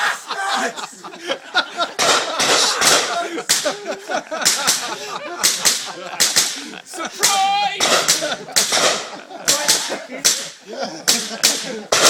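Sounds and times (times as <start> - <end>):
people stifling laughter: 0.0 - 12.0.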